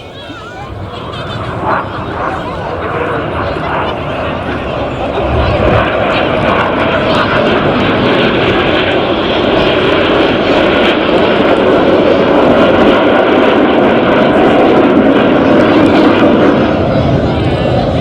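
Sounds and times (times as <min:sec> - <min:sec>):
aircraft engine roar flying past: 0:00.0 - 0:18.0.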